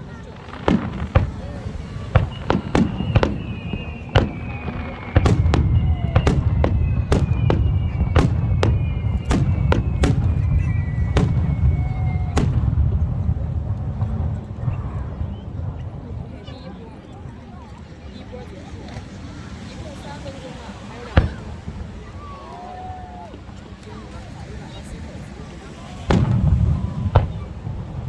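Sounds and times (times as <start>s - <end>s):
whistling firework shells: 0.0s - 15.9s, 18.9s - 24.1s, 25.4s - 28.0s
fireworks banging: 0.0s - 16.5s, 18.6s - 22.3s, 24.2s - 28.0s.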